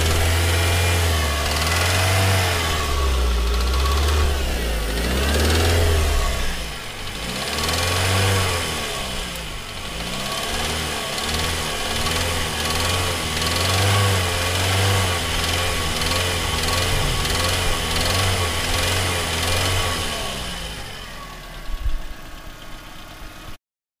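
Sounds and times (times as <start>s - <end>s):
car engine revving in blips: 0.0s - 21.9s.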